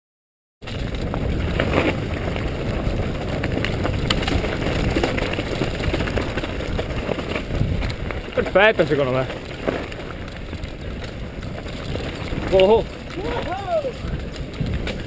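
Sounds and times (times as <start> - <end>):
bike knocking and rattling: 0.6 - 15.0
tyres rumbling over dirt: 0.6 - 15.0
wind on microphone: 0.6 - 15.0.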